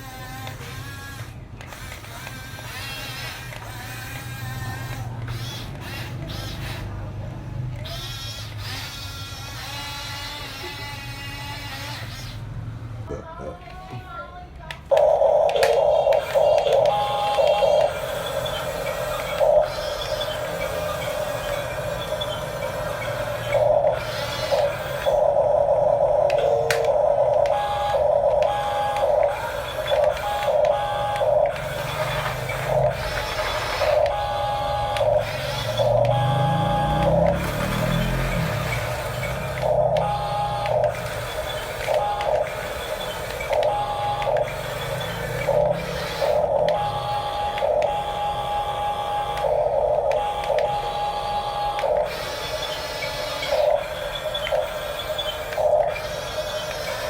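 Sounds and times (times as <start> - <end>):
gear grinding: 0.0 - 12.7, 14.8 - 57.0
toy electric motors whirring: 0.0 - 57.0.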